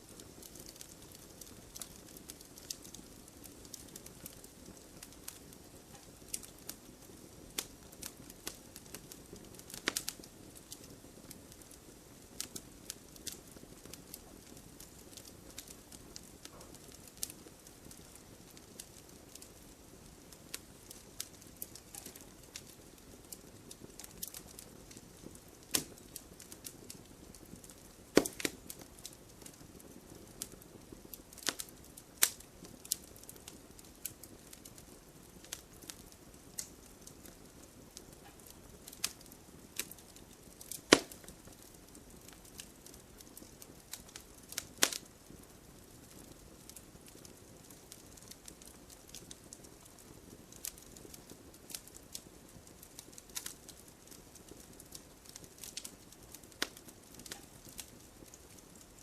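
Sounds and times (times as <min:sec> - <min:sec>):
fire hissing: 0:00.0 - 0:58.8
logs crackling and popping: 0:00.0 - 0:59.0.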